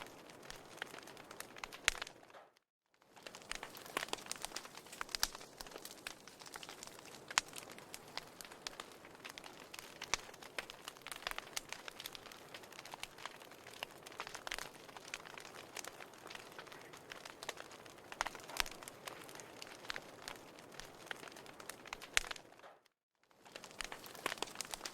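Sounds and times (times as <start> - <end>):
wood fire crackling and popping: 0.0 - 24.9.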